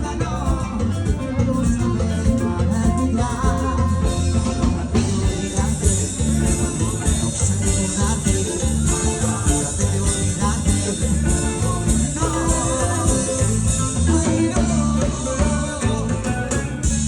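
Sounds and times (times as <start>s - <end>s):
guitar: 0.0s - 17.0s
heavy bass beat: 0.0s - 17.0s
latin dance music: 0.0s - 17.0s
person singing: 0.0s - 17.0s.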